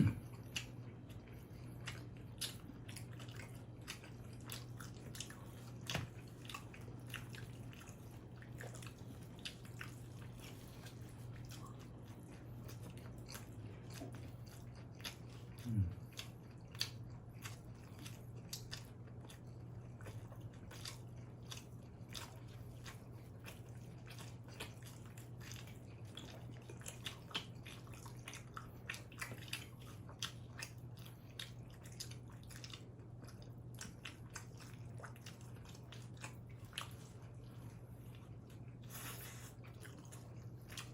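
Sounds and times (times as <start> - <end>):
chewing and crunching: 0.0 - 40.9
low steady hum: 0.0 - 40.9.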